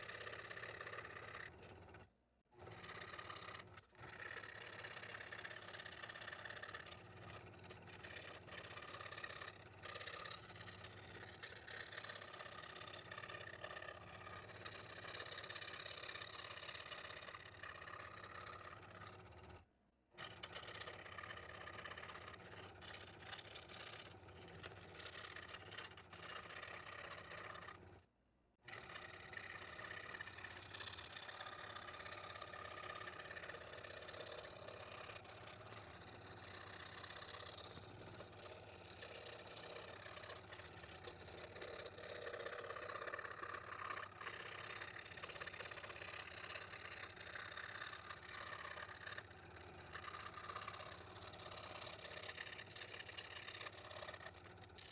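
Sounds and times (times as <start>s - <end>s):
scroll saw cutting wood: 0.0s - 19.6s, 20.2s - 54.9s.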